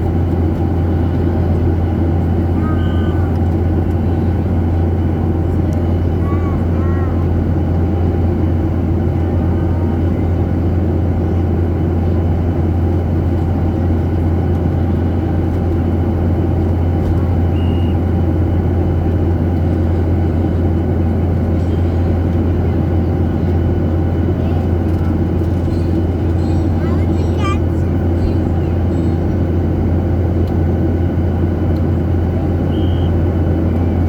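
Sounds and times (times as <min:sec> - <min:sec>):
jet airliner cabin rumble: 0:00.0 - 0:34.0.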